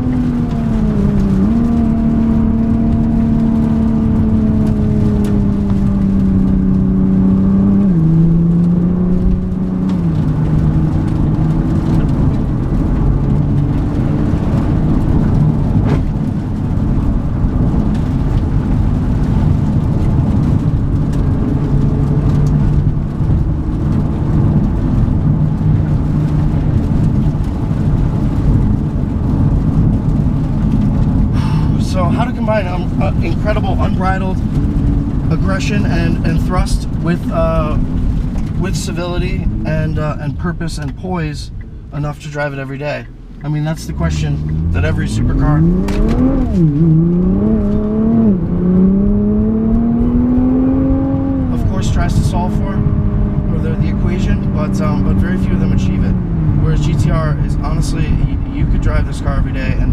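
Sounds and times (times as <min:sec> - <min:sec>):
car engine under throttle: 0:00.0 - 0:59.9
tyre noise on wet road: 0:00.0 - 0:59.9.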